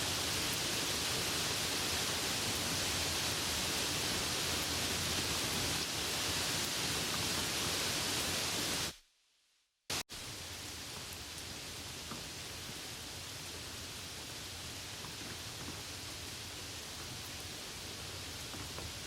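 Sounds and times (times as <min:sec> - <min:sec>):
soft rain hissing: 0:00.0 - 0:09.0, 0:09.9 - 0:19.0.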